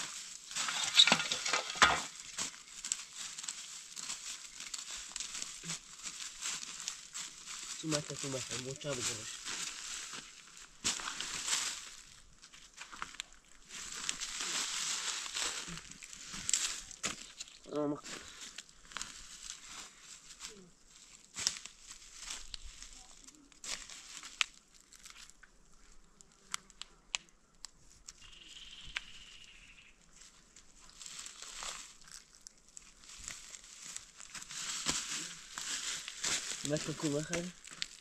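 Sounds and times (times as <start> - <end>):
dry leaves rustling and crunching: 0.0 - 27.2, 27.8 - 38.0
small stones and twigs clicking: 0.0 - 29.5, 30.2 - 38.0.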